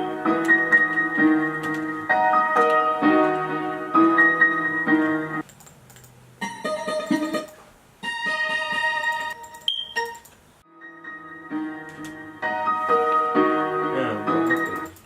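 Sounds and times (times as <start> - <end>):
keyboard chords: 0.0 - 5.4, 6.4 - 15.0.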